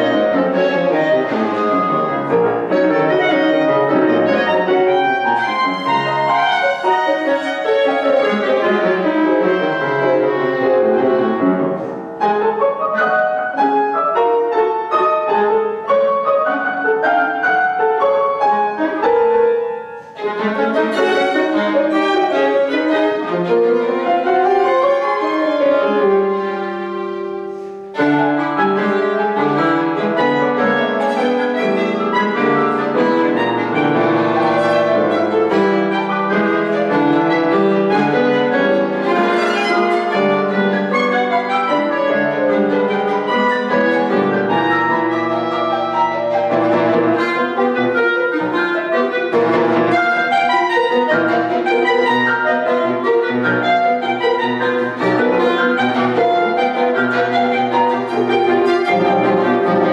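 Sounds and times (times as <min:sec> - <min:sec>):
clarinet: 0:00.0 - 0:59.9
grand piano: 0:00.0 - 0:59.9
violin: 0:00.0 - 0:59.9.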